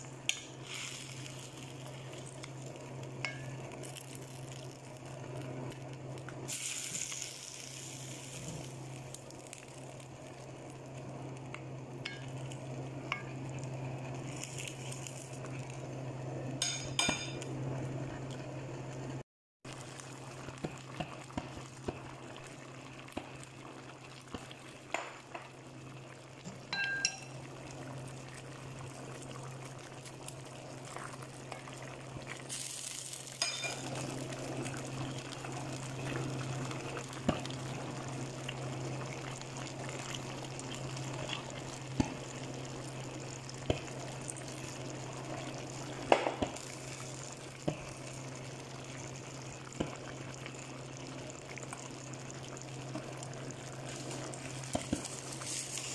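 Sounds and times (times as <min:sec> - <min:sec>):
stew bubbling in pan: 0:00.0 - 0:19.0, 0:19.7 - 0:55.9.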